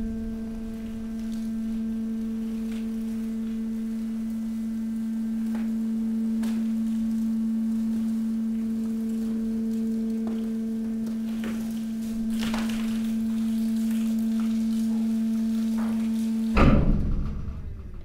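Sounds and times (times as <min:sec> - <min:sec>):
faint clicks and crackles: 0:00.0 - 0:16.6
waste compactor pump humming: 0:00.0 - 0:18.0.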